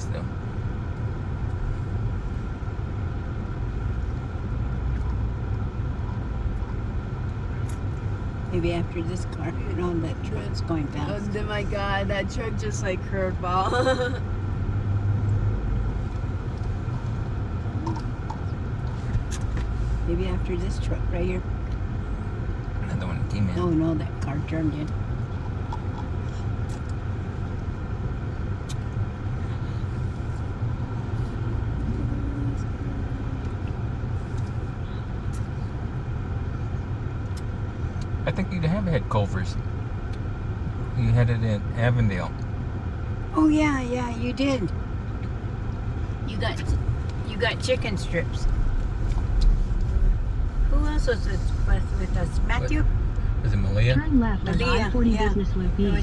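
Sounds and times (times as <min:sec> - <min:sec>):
car engine idling: 0:00.0 - 0:56.0
road traffic passing: 0:00.0 - 0:56.0.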